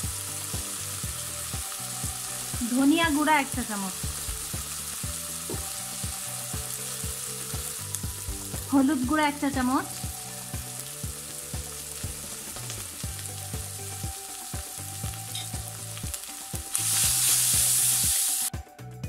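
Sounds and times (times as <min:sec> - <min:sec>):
onions frying in oil: 0:00.0 - 0:18.6.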